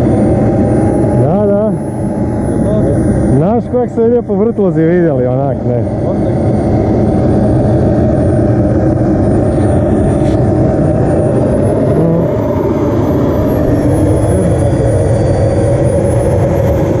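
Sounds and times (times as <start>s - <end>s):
model jet turbine running: 0.0s - 17.0s.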